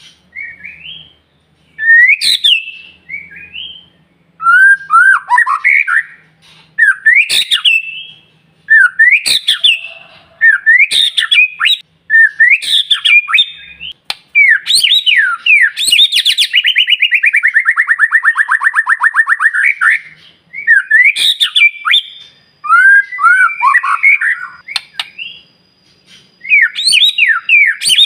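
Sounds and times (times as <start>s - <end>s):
songbird whistling and trilling: 0.3s - 28.0s.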